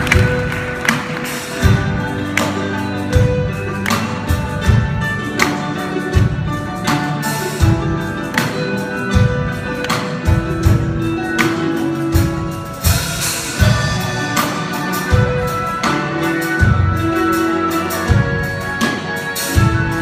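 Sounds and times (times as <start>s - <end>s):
folk orchestra playing rock: 0.0s - 20.0s
plucked strings: 0.0s - 20.0s
steady drum beat: 0.0s - 20.0s.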